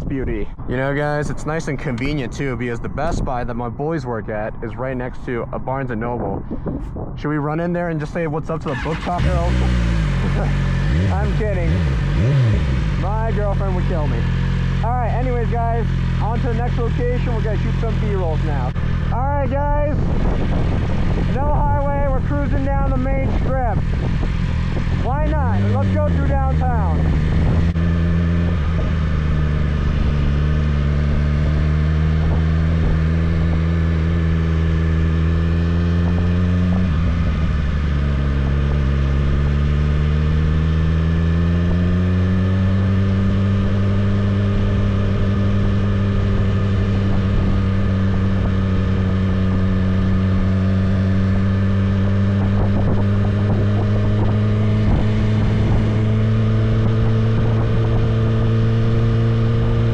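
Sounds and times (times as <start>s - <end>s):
motorcycle engine cruising: 8.6s - 59.9s.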